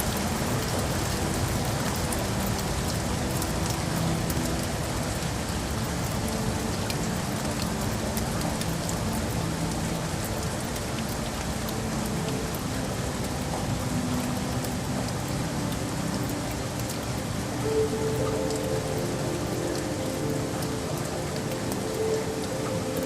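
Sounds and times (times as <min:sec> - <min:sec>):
raindrop ticks: 0:00.0 - 0:23.0
steady rain falling: 0:00.0 - 0:23.0.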